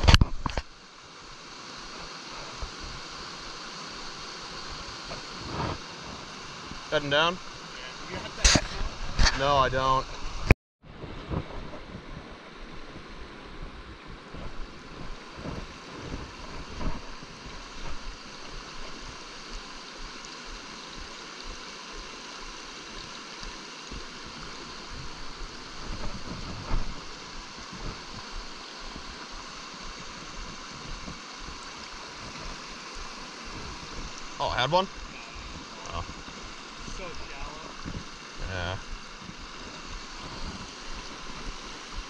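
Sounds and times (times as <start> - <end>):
wind rumble on microphone: 0.0 - 0.7, 2.3 - 42.0
stream running over rocks: 0.0 - 42.0.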